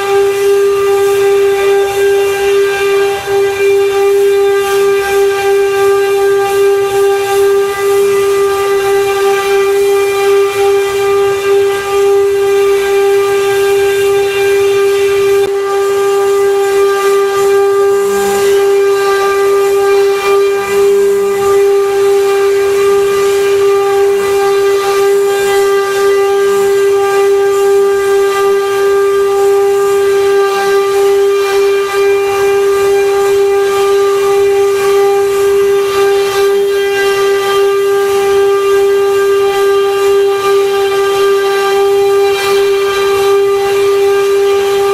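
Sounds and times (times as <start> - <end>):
router spindle high whine: 0.0 - 44.9.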